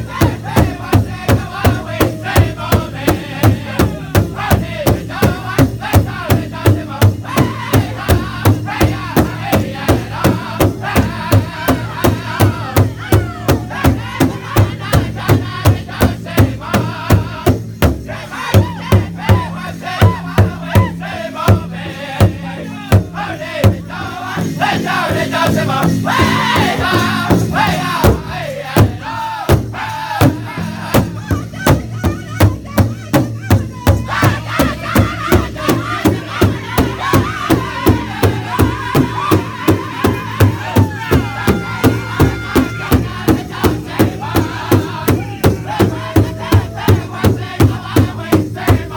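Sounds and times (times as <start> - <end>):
high voices chanting together: 0.0 - 48.9
large drum beating: 0.0 - 48.9.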